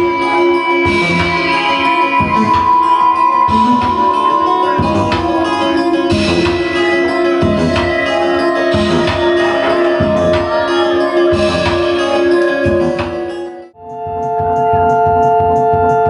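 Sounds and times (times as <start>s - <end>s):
held drone tones: 0.0s - 16.0s
low percussive hits: 0.0s - 16.0s.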